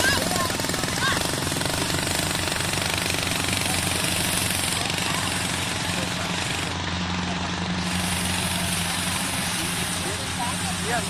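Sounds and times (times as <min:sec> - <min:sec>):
fast regular rattle: 0:00.0 - 0:11.0
harvester engine humming: 0:00.0 - 0:11.0.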